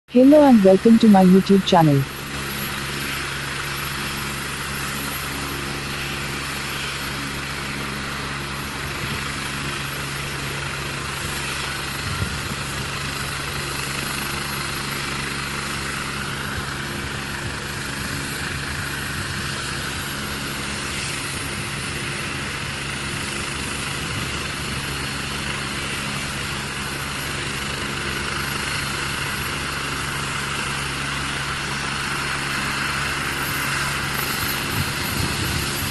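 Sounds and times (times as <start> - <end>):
helicopter engine and rotor: 0.1 - 35.9.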